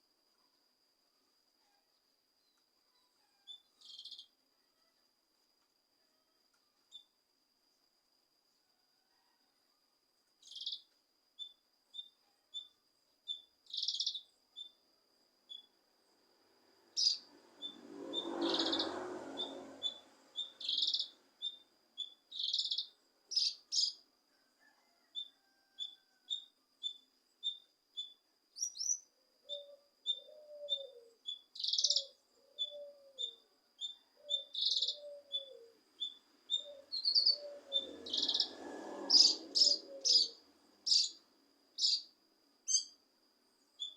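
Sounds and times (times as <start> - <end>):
songbird chirping: 1.6 - 7.9, 10.2 - 43.9.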